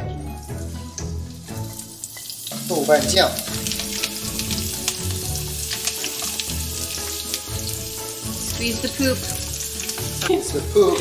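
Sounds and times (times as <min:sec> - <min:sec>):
vegetables sizzling in hot oil: 0:00.2 - 0:11.0.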